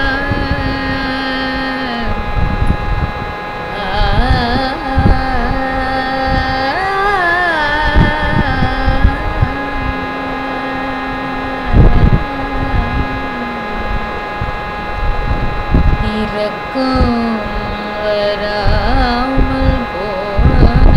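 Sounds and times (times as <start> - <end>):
woman singing: 0.0 - 2.5, 3.7 - 14.4, 16.0 - 20.9
low rumbling noise: 0.0 - 20.9
steady drone: 0.0 - 20.9.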